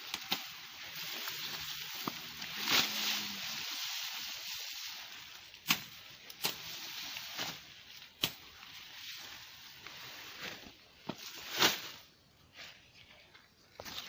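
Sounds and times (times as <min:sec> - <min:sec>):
rustling hiss: 0:00.0 - 0:12.7.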